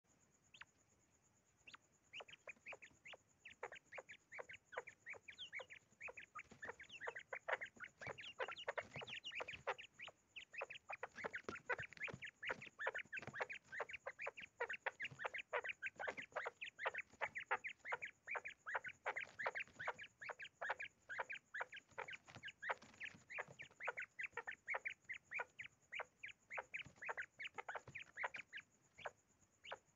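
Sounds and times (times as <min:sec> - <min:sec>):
quail calling: 0:01.7 - 0:29.9.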